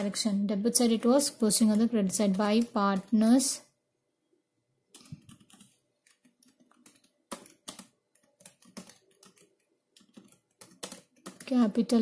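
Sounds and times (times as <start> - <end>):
computer keyboard typing: 0.0 - 3.7, 4.9 - 12.0.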